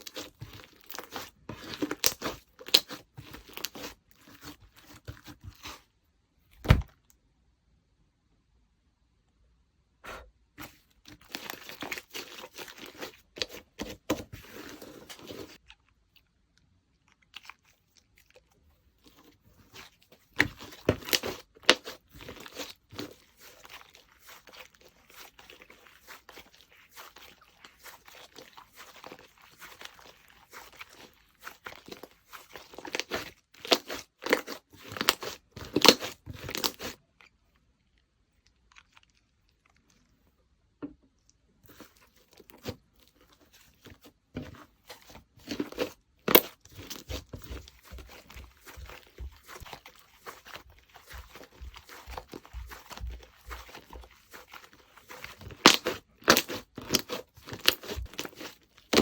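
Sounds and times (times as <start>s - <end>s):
slime squished by hand: 0.0s - 5.9s, 10.1s - 37.4s, 41.7s - 59.0s.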